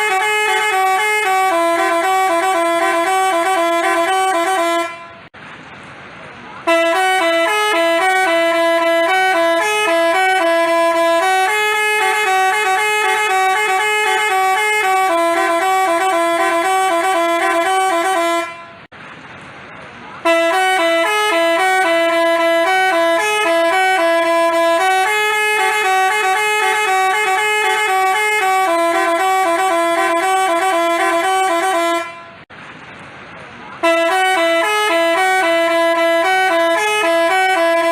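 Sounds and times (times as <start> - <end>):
multi-tone horn melody: 0.0 - 5.3, 6.6 - 18.9, 20.2 - 32.5, 33.8 - 37.9.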